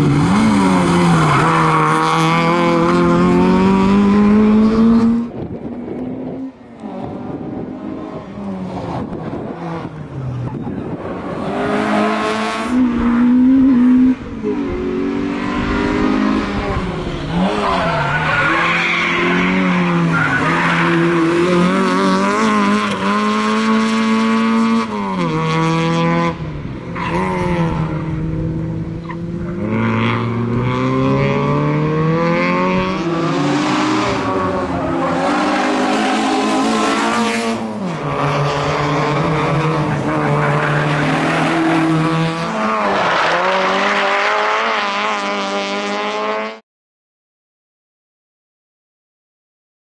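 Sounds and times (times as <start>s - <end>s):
rally car engine revving: 0.0s - 46.6s.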